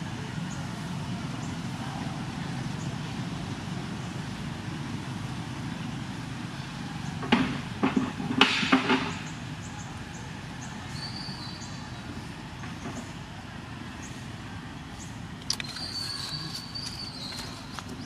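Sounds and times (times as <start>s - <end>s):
distant road traffic rumble: 0.0s - 18.0s.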